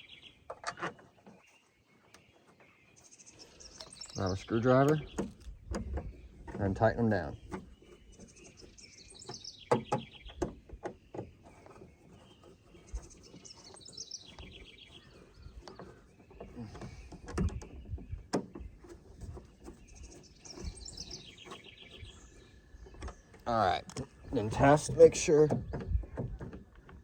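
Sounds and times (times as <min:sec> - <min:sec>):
songbird trilling: 0:03.0 - 0:18.5, 0:19.7 - 0:26.1.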